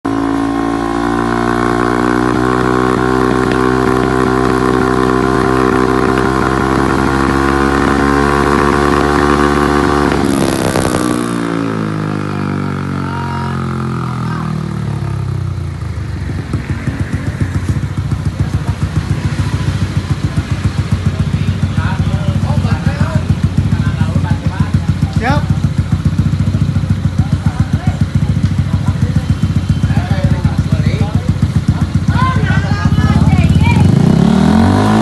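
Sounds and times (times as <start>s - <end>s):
scooter engine revving: 0.1s - 35.0s.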